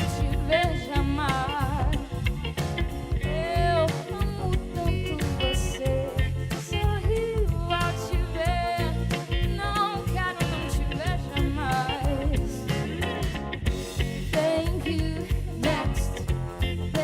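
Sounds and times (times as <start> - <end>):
person singing with vibrato: 0.0 - 2.3, 3.2 - 13.0, 14.3 - 17.0
band accompaniment with beat: 0.0 - 17.0.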